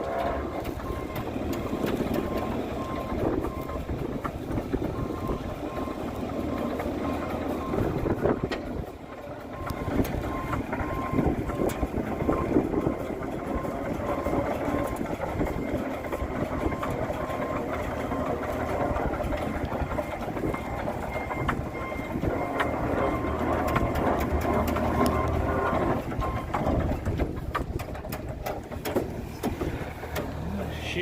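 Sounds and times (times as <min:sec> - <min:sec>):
engines running under load: 0:00.0 - 0:31.0.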